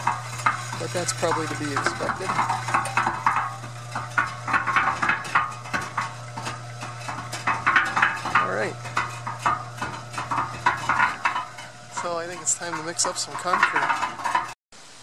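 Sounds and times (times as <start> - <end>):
electric motor hum: 0.0 - 14.6
mixer drum rattling and clanking: 0.0 - 14.6.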